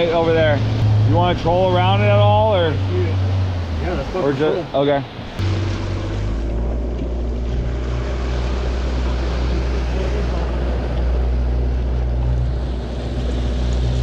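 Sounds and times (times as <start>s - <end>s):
motorboat engine running: 0.0s - 14.0s
water rushing past hull: 0.0s - 14.0s.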